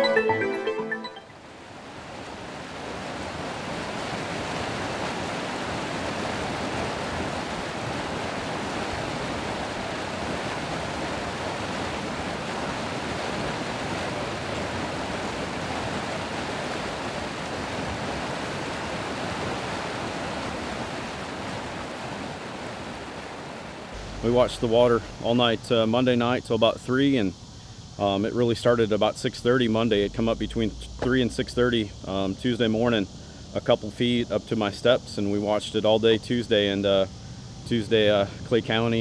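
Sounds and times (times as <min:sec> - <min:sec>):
water rushing: 0:00.0 - 0:39.0.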